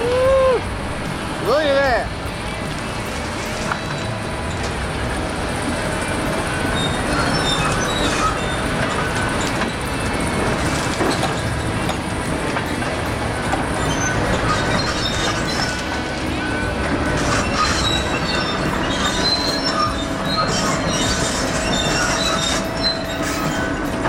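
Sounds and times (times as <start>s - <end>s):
heavy machine engine: 0.0s - 24.0s
high metallic track squeals: 0.0s - 24.0s.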